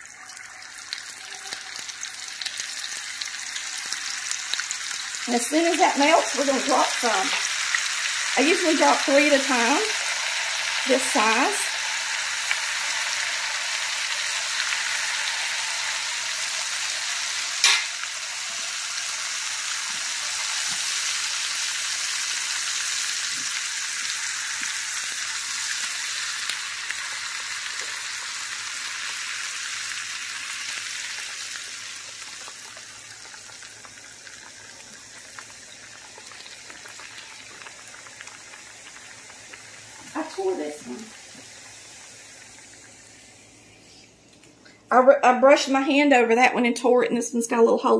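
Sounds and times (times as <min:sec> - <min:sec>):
pies sizzling in a pan: 0:00.0 - 0:44.4.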